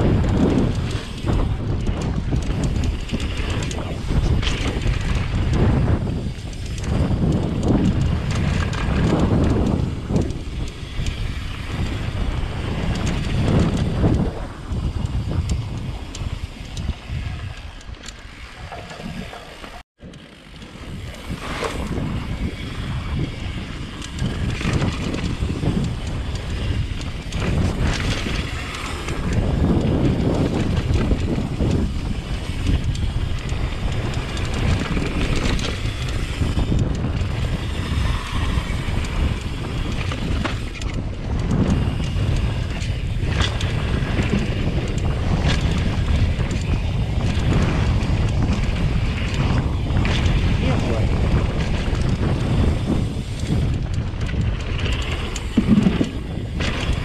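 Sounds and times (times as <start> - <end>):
bike rattling over bumps: 0.0 - 57.0
tyres rumbling over dirt trail: 0.0 - 57.0
wind buffeting microphone: 0.0 - 57.0.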